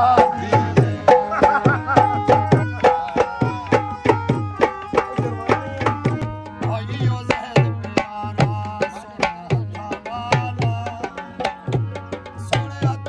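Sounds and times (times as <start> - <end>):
hand drum quick rhythm: 0.0 - 13.0.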